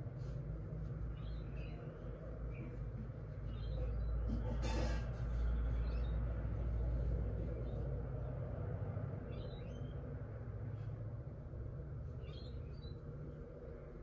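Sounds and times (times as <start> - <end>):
steady low rumble: 0.0 - 4.4, 5.2 - 14.0.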